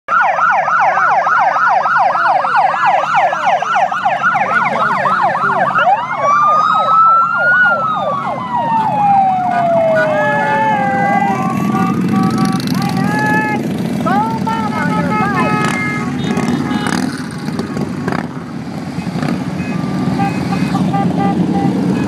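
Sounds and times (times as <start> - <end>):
motorcycle engines: 0.1 - 22.0
siren wail: 0.1 - 22.0
siren yelp: 0.1 - 22.0.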